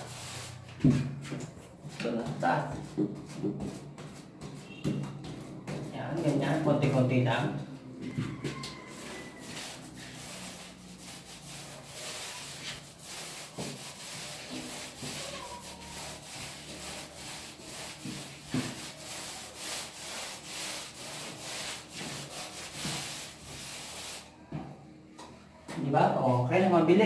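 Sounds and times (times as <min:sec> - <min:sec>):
paint roller rubbing on wall: 0:00.0 - 0:24.6.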